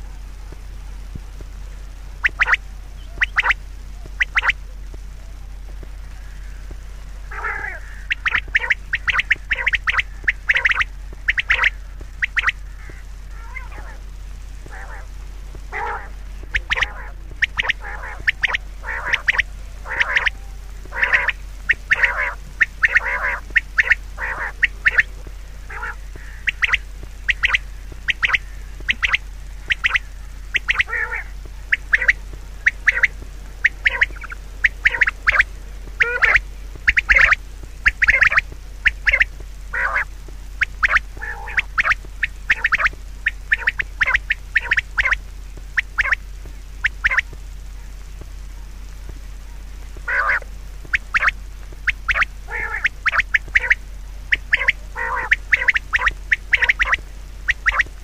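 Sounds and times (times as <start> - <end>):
birds squawking: 1.8 - 58.0.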